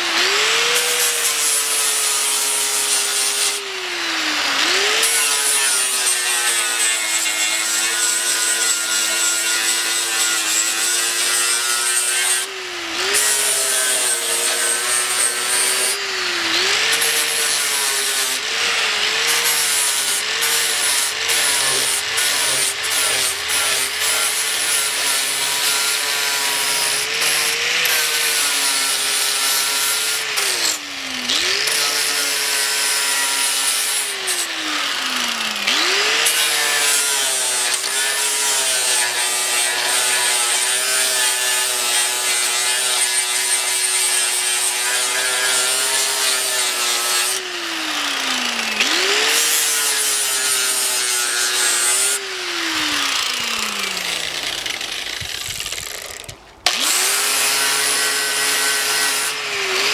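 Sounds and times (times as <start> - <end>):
angle grinder grinding metal: 0.0 - 59.9.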